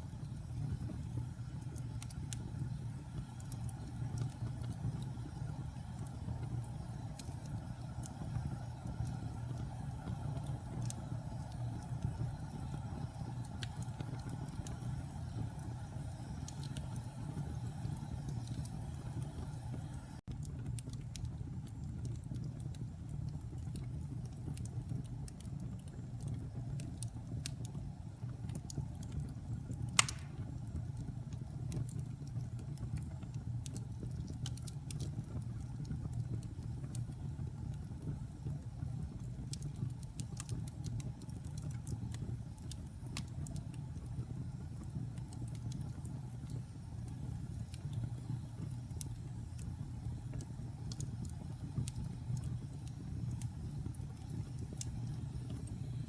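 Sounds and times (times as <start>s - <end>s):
fire crackles and pop: 0.0s - 56.0s
wood fire rumbling: 0.0s - 56.0s.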